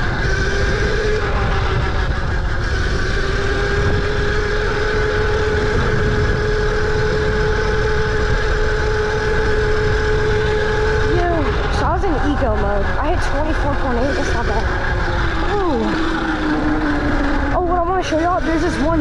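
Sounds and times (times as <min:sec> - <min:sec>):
electric motor whine: 0:00.0 - 0:19.0
low rumble: 0:00.0 - 0:19.0.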